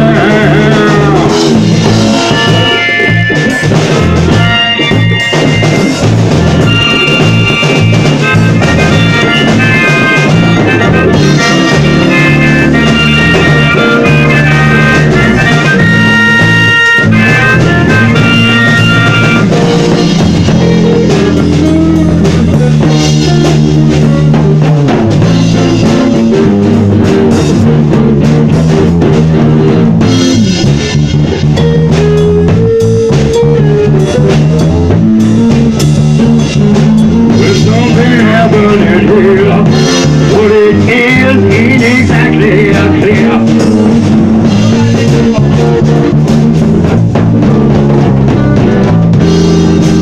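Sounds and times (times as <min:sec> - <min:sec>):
harmonica high notes: 0:00.0 - 0:27.5, 0:28.6 - 0:46.1
live rock band playing: 0:00.0 - 0:50.0.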